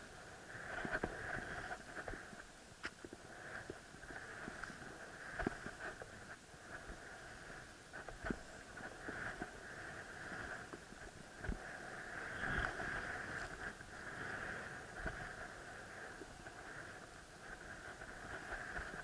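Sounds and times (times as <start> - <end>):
skis hissing over snow: 3.2 - 19.0.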